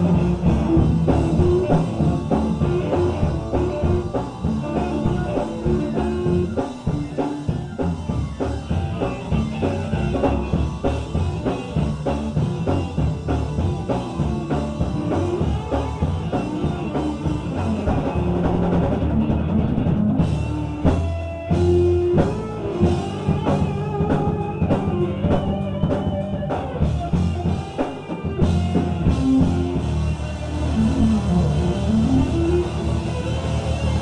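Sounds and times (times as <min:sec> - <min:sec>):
band playing instrumental: 0:00.0 - 0:34.0.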